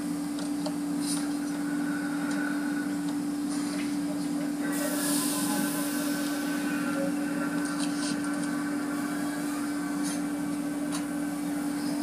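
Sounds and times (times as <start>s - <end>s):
car wash machinery humming: 0.0s - 12.0s.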